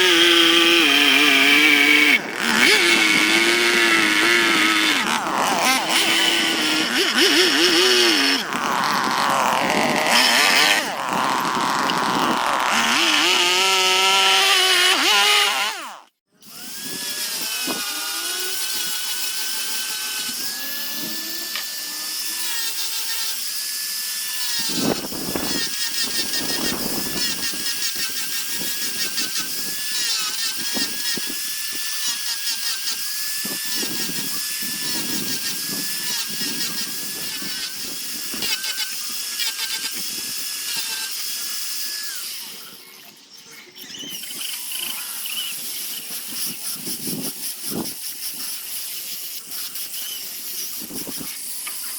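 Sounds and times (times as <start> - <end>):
rotary power tool whining: 0.0 - 51.9.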